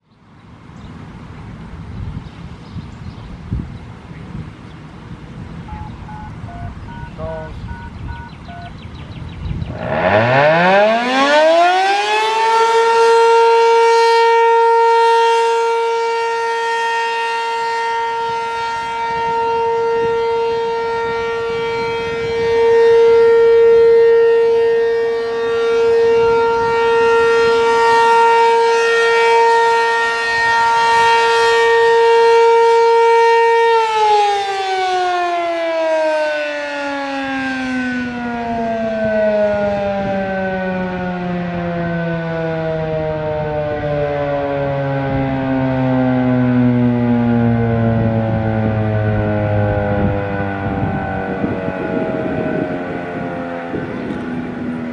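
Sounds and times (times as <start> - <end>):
outdoor warning siren: 4.3 - 54.9.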